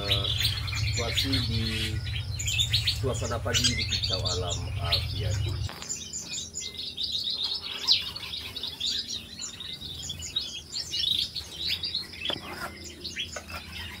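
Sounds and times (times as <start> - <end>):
small birds chirping and twittering: 0.0 - 14.0.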